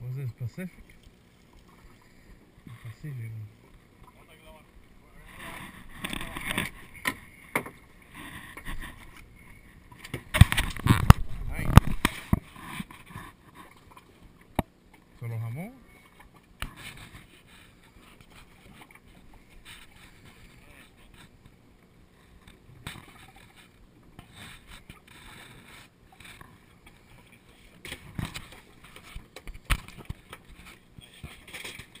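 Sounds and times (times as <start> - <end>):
water sloshing against hull: 0.6 - 32.0.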